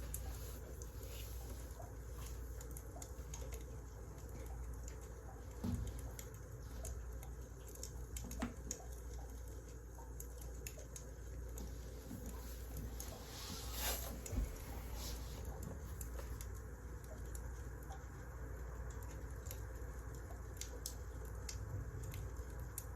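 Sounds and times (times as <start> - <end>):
wood fire crackling: 0.0 - 22.9.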